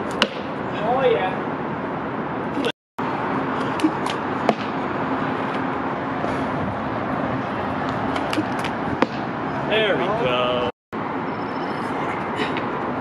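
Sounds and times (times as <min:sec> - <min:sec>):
heavy traffic noise: 0:00.0 - 0:13.0.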